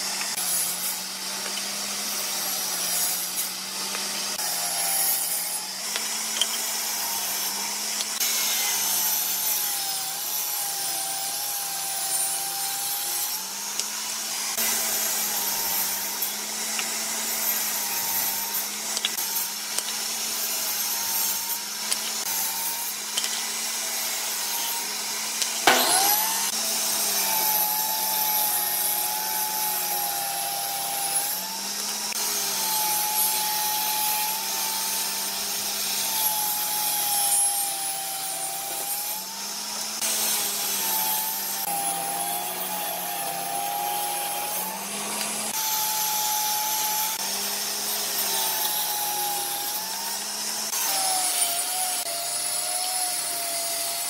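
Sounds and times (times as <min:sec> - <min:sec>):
table saw ripping boards: 0:00.0 - 0:54.0.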